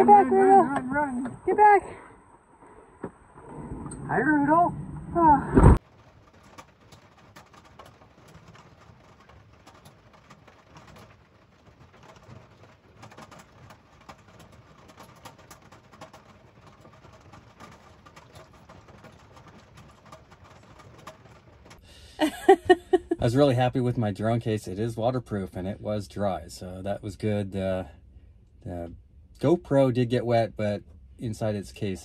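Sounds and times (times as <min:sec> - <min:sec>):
rain on a vehicle roof: 0:00.0 - 0:01.8, 0:05.2 - 0:28.0, 0:28.6 - 0:32.0.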